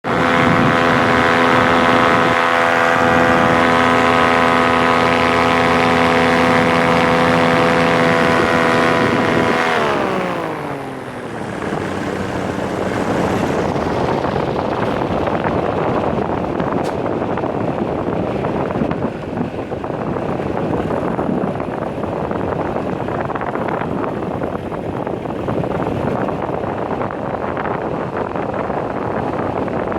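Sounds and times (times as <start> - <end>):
paramotor engine and propeller: 0.0 - 29.9
wind noise: 0.0 - 29.9.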